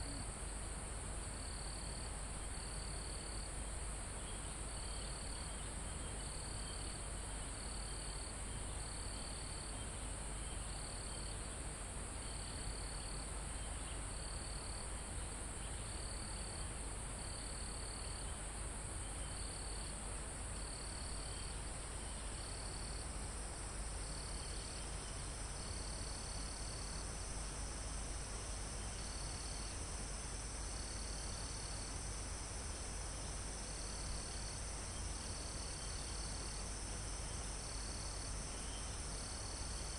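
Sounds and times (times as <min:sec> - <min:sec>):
lower cricket chirping trills: 0:00.0 - 0:39.9.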